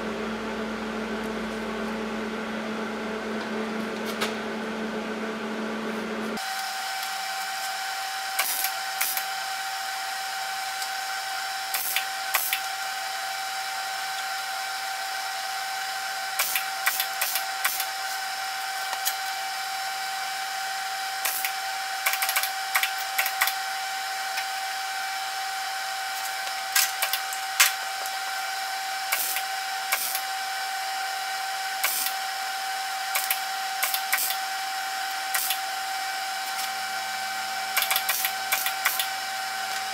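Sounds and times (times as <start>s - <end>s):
high-pitched welder hum: 6.3s - 39.9s.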